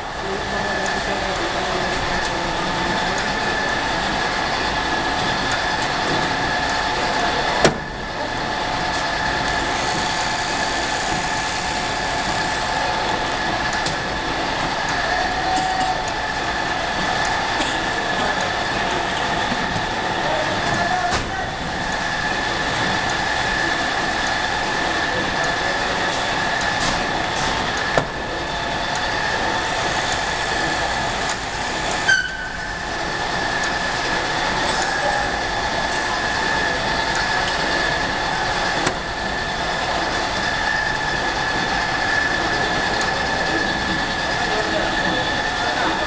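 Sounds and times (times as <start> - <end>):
belt conveyor whining: 0.0 - 46.0.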